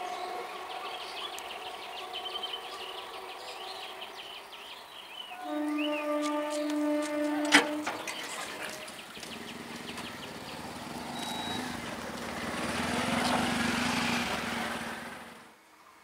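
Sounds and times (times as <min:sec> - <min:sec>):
train rolling rumble with hum: 0:00.0 - 0:15.4.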